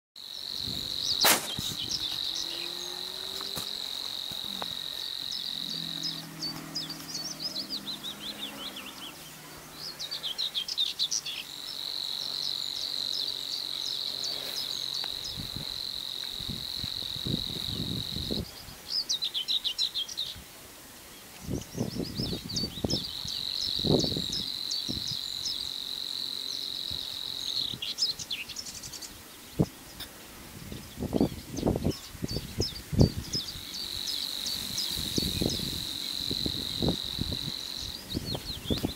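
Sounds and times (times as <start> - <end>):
warbler buzzing reel song: 0.2 - 20.4, 21.1 - 38.9.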